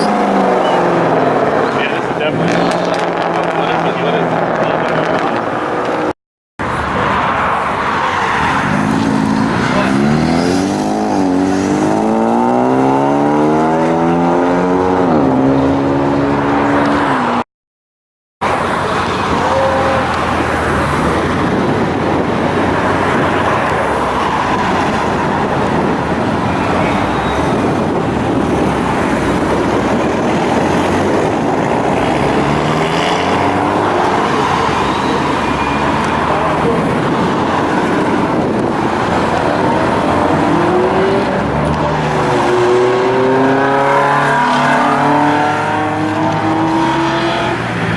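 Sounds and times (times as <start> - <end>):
car engines revving: 0.0 - 17.4, 18.4 - 47.9
din of engines and tyres: 0.0 - 17.5, 18.4 - 47.9.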